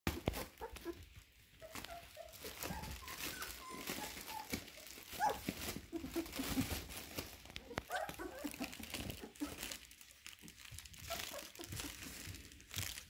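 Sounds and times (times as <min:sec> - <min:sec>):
bubble wrap crinkling under paws: 0:00.1 - 0:13.0
puppies whimpering and squeaking: 0:00.1 - 0:13.0.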